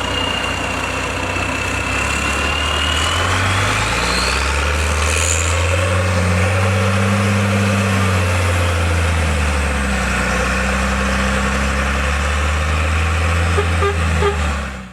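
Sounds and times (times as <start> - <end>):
diesel truck engine droning: 0.0 - 14.9.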